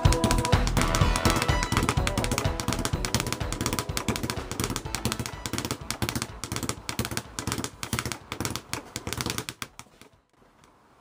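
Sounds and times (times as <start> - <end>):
speed bag rattling against board: 0.0 - 10.1.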